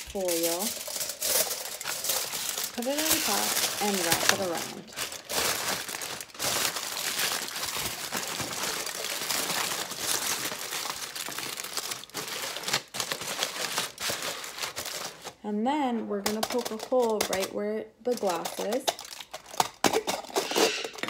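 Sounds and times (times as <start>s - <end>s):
aluminium foil crinkling: 0.0s - 15.4s, 16.2s - 21.0s.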